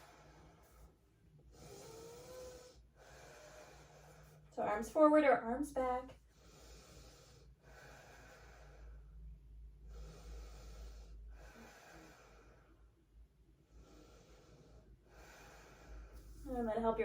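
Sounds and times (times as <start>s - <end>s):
woman breathing slowly: 0.0s - 4.6s, 6.1s - 16.5s.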